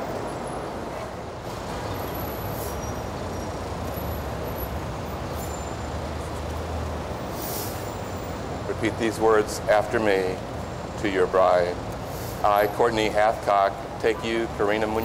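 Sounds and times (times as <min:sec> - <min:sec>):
hum of passing traffic: 0:00.0 - 0:15.0.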